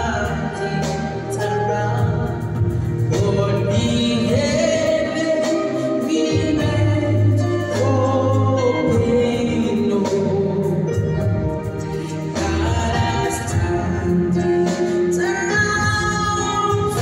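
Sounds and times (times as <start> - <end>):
man singing into microphone: 0.0 - 11.4, 12.3 - 17.0
electronic keyboard chords: 0.0 - 17.0.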